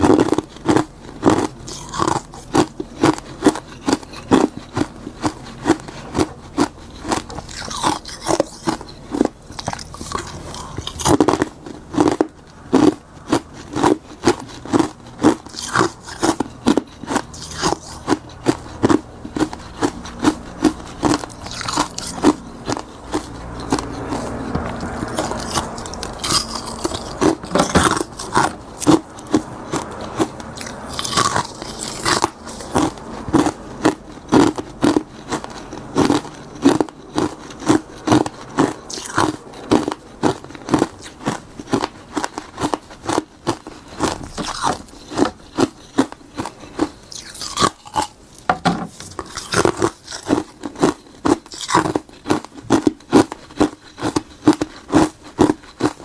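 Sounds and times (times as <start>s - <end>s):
chewing and crunching ice: 0.0s - 56.0s.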